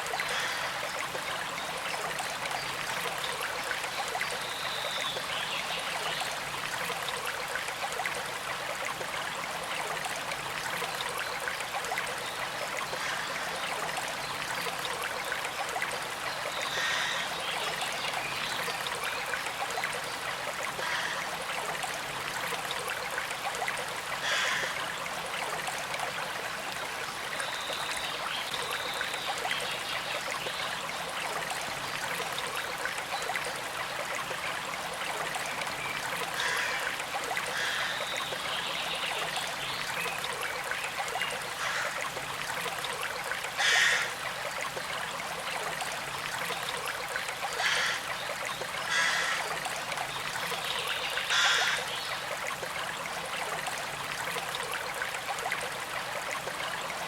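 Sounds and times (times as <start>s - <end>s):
creek trickling: 0.0s - 57.0s.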